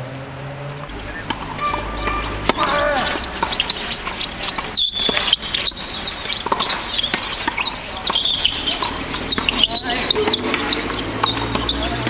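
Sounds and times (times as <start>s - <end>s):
birds chirping: 0.5s - 12.0s
tennis ball hitting racket: 0.8s - 12.0s.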